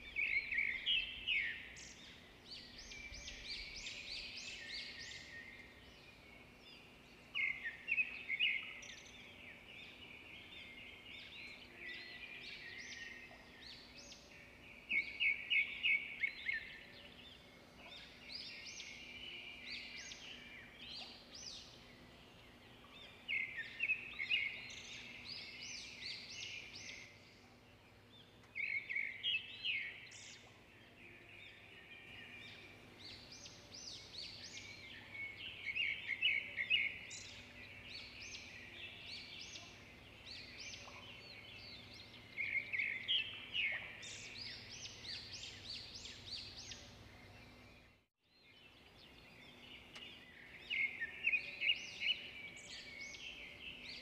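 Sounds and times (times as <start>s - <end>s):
bird chirping: 0.0s - 54.0s
faint outdoor background noise: 0.0s - 54.0s.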